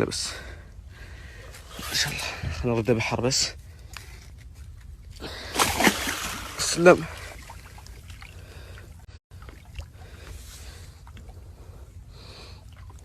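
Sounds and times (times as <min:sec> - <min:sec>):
boat engine rumble: 0:00.5 - 0:13.0.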